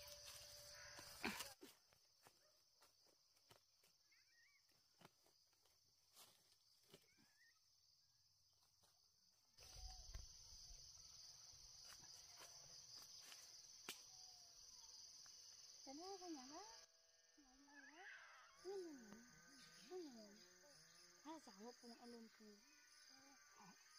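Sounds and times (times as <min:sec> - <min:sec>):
insects chorus: 0:00.0 - 0:23.9.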